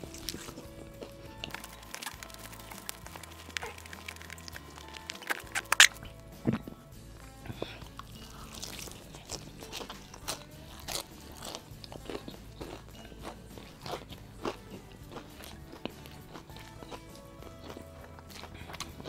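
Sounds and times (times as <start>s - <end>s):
crunching fried chicken: 0.0s - 6.8s, 7.4s - 19.0s.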